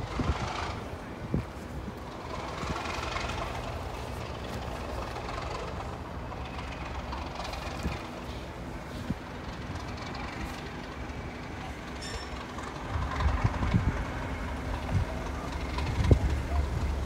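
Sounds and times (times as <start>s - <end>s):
locomotive engine idling: 0.0s - 17.0s.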